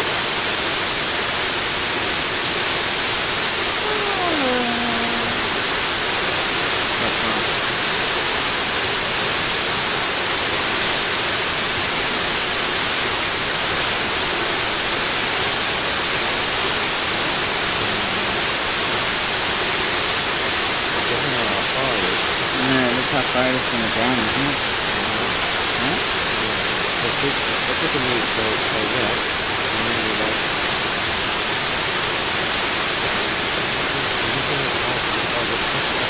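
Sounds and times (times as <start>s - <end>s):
waterfall pouring: 5.3s - 36.0s.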